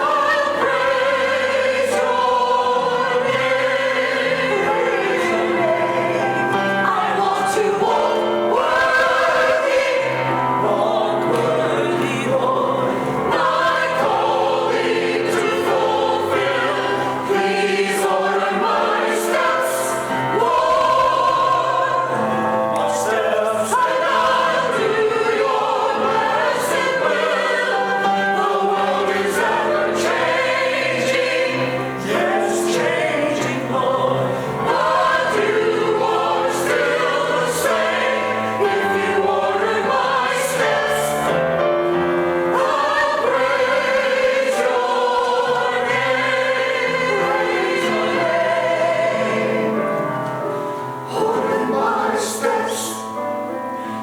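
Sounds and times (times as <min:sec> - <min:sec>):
choir singing sacred music: 0:00.0 - 0:54.0.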